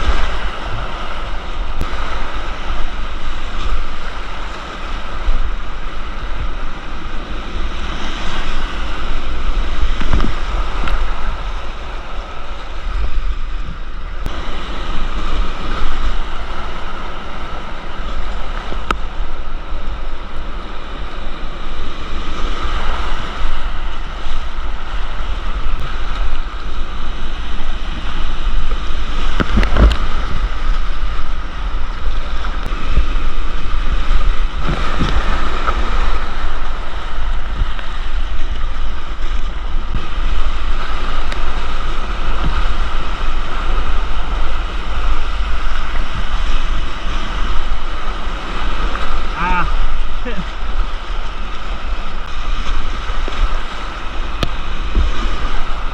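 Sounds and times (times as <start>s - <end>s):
whitewater rapids rushing: 0.0s - 55.9s
wind buffeting microphone: 0.0s - 55.9s.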